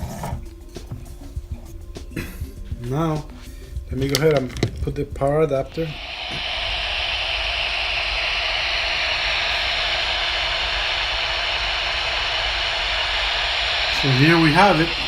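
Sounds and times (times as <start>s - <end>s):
white noise hiss from speaker: 0.0s - 15.0s.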